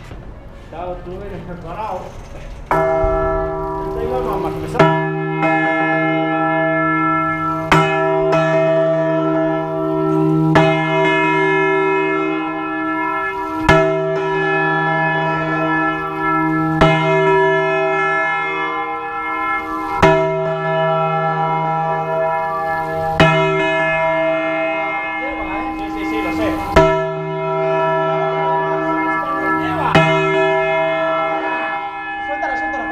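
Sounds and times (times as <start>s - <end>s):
large church bell ringing: 0.0s - 32.9s.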